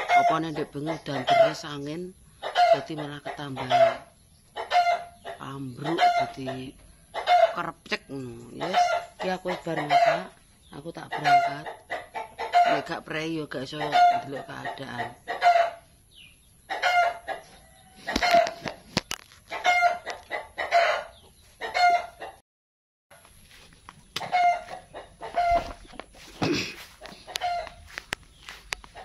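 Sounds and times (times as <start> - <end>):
chickens clucking: 0.0 - 22.4, 23.5 - 29.0.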